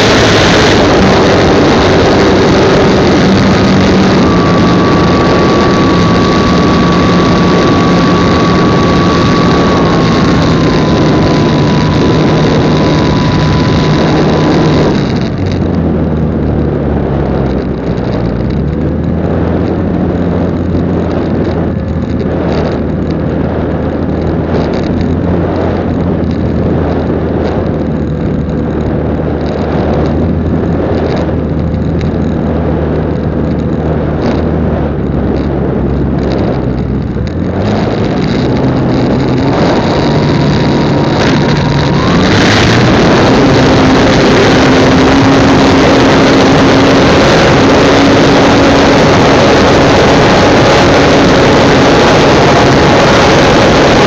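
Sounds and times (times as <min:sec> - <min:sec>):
electric motor whine: 0:00.0 - 0:32.5, 0:33.1 - 0:54.0
propeller hum: 0:00.0 - 0:54.0
wind buffeting: 0:00.0 - 0:54.0.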